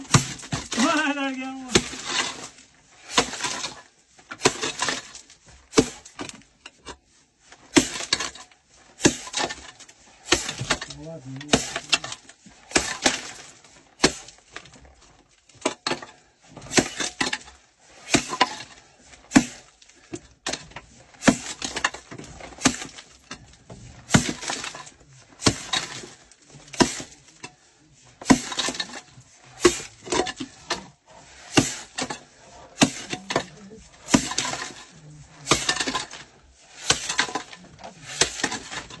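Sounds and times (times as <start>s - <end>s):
pick striking coal: 0.0s - 6.5s, 7.7s - 14.8s, 15.6s - 39.0s
coal lumps clinking and rattling: 0.0s - 6.9s, 7.5s - 39.0s.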